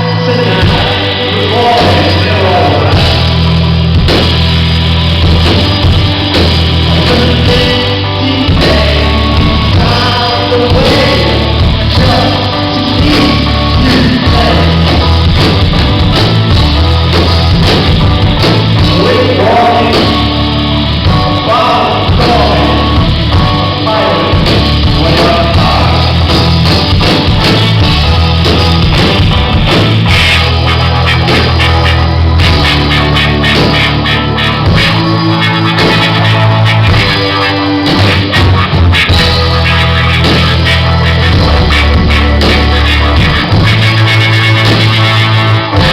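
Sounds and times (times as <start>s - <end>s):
rock band with singer: 0.0s - 45.9s.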